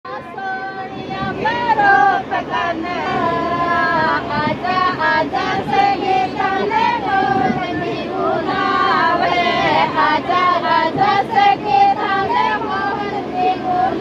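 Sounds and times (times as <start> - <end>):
women singing folk song: 0.1 - 14.0.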